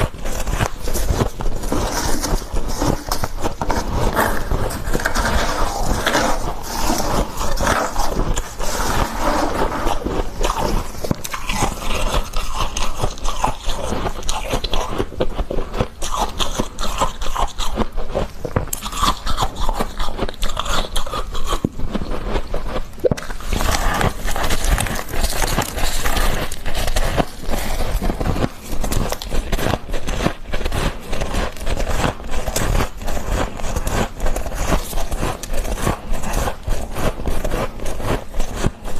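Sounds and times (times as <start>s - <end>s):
crunching frost between teeth: 0.0s - 38.9s.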